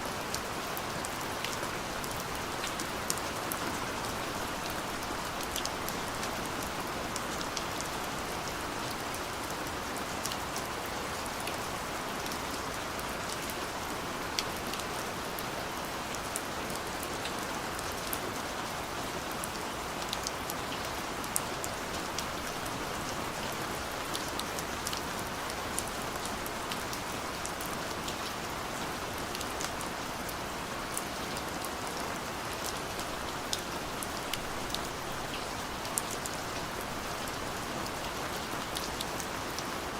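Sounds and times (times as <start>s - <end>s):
raindrops pattering on a surface: 0.1s - 39.9s.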